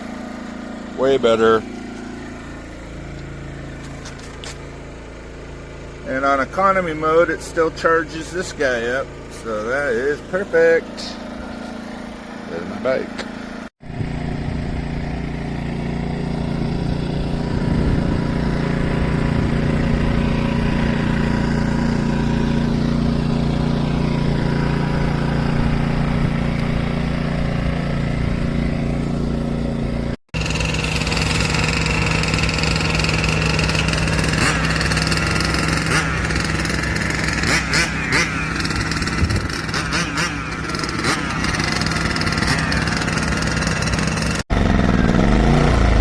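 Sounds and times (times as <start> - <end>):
generator engine running: 0.0 - 46.0.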